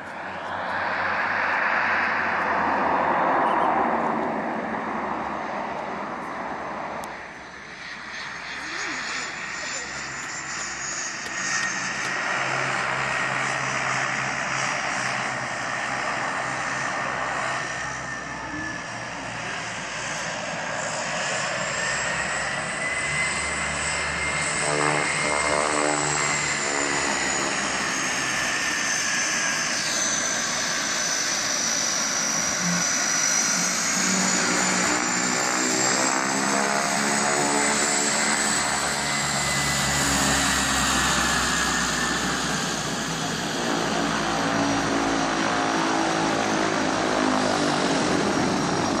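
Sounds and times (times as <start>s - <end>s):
propeller drone: 0.0s - 49.0s
turbine whine: 0.0s - 49.0s.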